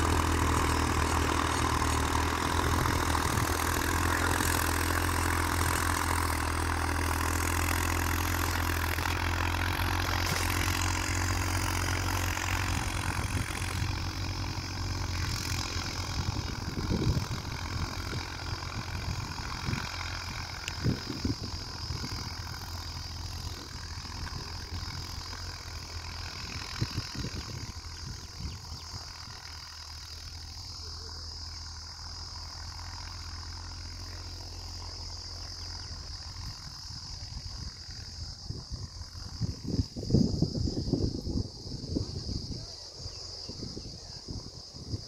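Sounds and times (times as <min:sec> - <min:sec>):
distant tractor engine: 0:00.0 - 0:45.0
high-pitched insect drone: 0:00.0 - 0:45.0.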